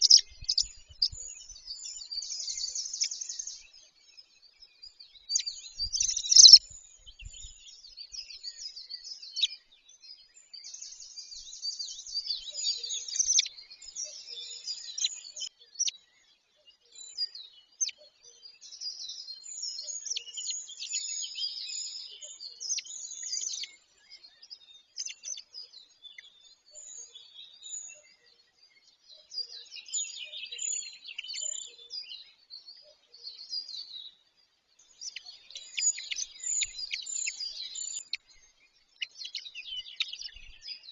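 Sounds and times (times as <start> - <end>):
small birds singing and chirping: 0.0 - 40.9.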